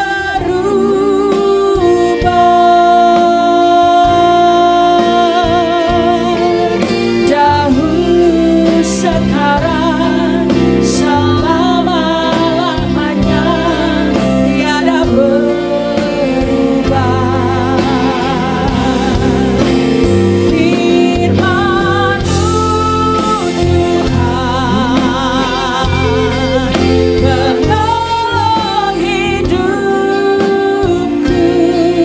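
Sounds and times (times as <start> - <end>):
live band playing: 0.0 - 32.0
women singing with vibrato: 0.0 - 32.0.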